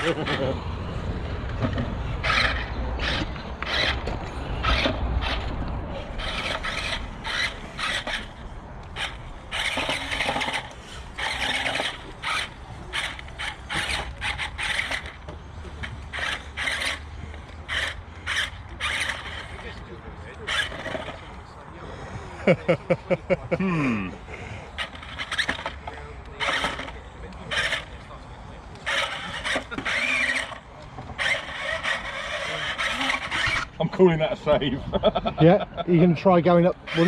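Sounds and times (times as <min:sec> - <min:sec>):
toy crawler motors whining: 0:00.0 - 0:21.5, 0:24.6 - 0:33.8, 0:36.7 - 0:37.0.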